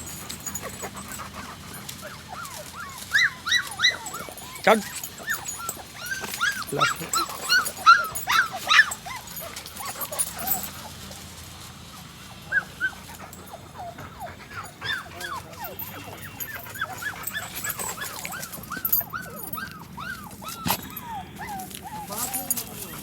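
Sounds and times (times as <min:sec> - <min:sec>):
puppies whimpering and yelping: 0:00.0 - 0:11.0, 0:12.4 - 0:23.0.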